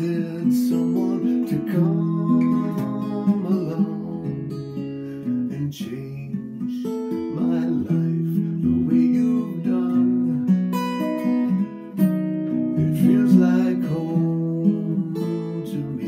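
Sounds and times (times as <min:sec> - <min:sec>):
acoustic guitar strummed chords: 0:00.0 - 0:16.0.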